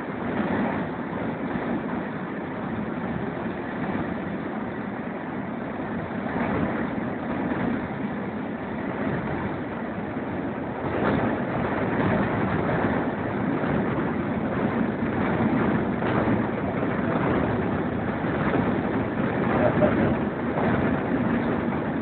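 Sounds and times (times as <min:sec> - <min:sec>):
rushing wind: 0:00.0 - 0:22.0
wheels rumbling on rails: 0:00.0 - 0:22.0.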